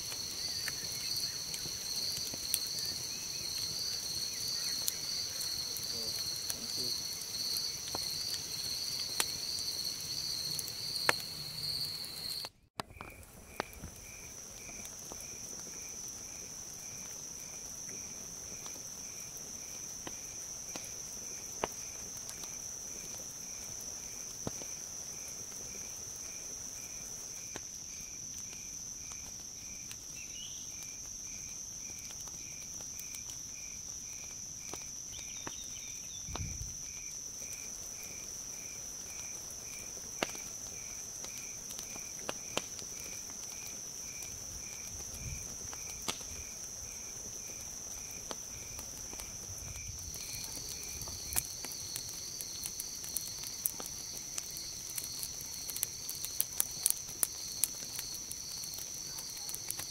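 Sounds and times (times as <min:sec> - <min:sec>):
high insect drone: 0:00.0 - 0:12.5, 0:13.6 - 0:59.9
campfire crackling and popping: 0:00.0 - 0:59.9
cricket chirping: 0:00.0 - 0:59.9.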